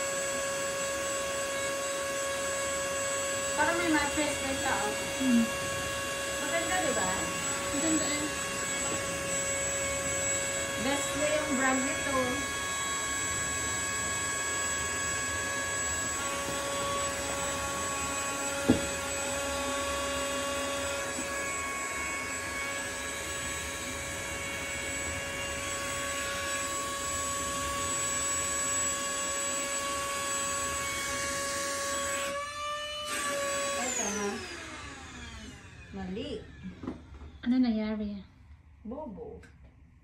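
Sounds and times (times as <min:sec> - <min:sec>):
electric air pump whining: 0:00.0 - 0:38.0.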